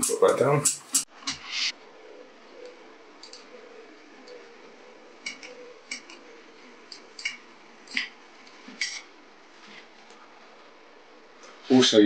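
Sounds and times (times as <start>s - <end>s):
faint steady hum: 1.8s - 12.0s.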